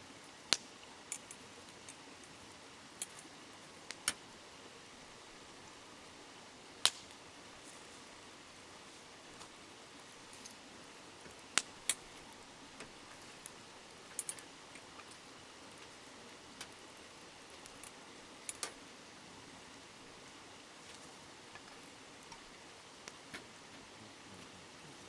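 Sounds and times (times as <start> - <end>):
campfire crackling and popping: 0.2 - 24.9.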